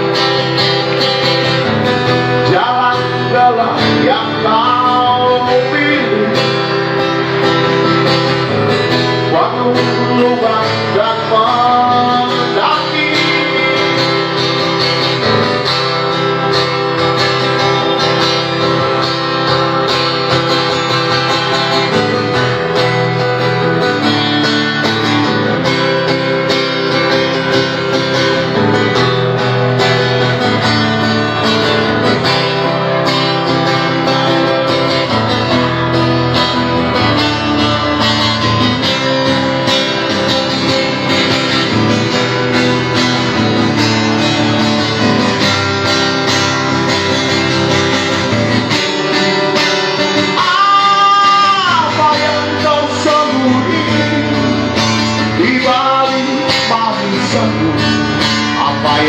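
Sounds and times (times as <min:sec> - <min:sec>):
guitar playing chords: 0:00.0 - 0:59.0.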